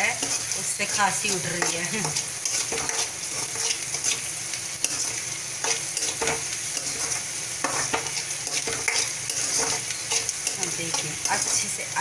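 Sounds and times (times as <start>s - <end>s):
onions sizzling in oil: 0.0s - 12.0s
spatula scraping pan: 0.0s - 12.0s.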